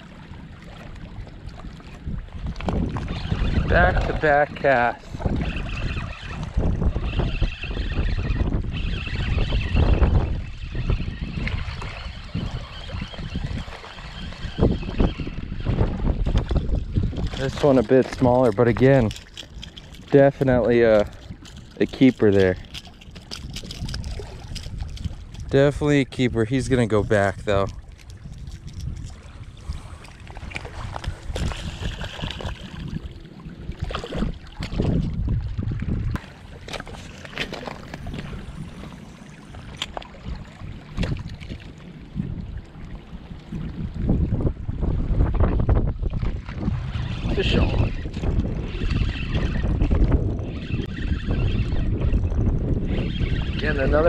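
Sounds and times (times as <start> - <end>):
water splashes: 0.0 - 51.6
wind buffeting microphone: 0.0 - 54.0.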